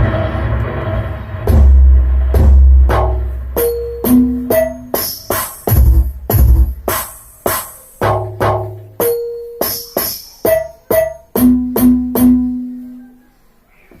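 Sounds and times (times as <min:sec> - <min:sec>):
electronic percussion music: 0:01.3 - 0:13.0.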